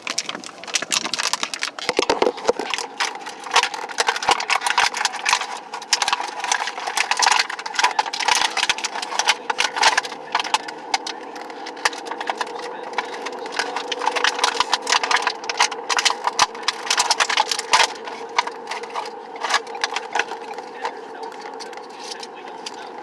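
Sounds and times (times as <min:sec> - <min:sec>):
faint steady hum: 0:00.0 - 0:23.0
packaging crackling and tearing: 0:00.0 - 0:23.0.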